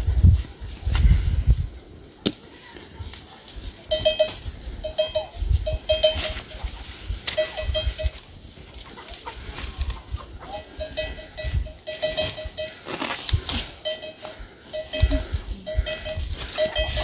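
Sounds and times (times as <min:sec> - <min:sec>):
farm animal calls: 0:02.6 - 0:17.0.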